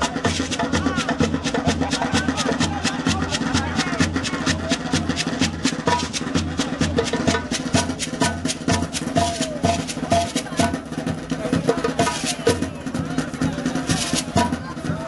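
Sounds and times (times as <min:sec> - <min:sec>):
music with clicking percussion beat: 0:00.0 - 0:15.0.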